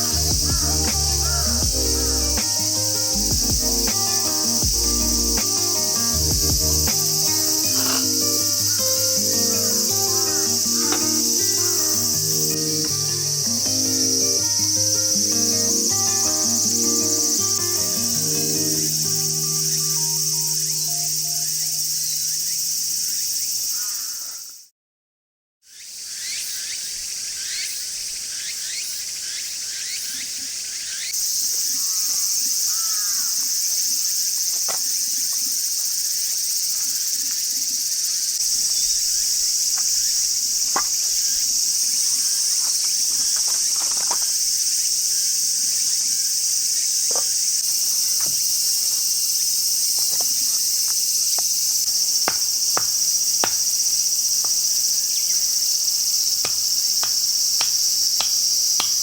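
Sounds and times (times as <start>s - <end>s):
insects chirping: 0.0s - 24.7s, 25.7s - 59.0s.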